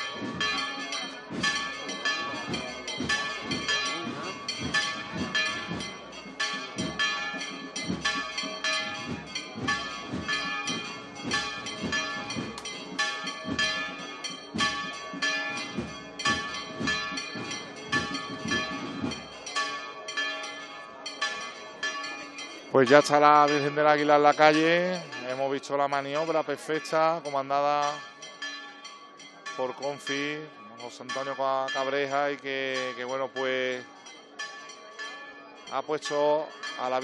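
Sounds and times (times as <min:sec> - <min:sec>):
church bells pealing: 0:00.0 - 0:37.0.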